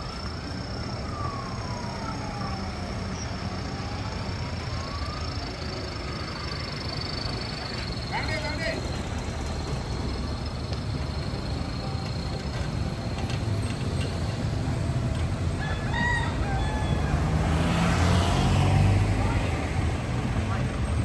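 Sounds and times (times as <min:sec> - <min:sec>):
truck engines rumbling past: 0:00.0 - 0:21.0.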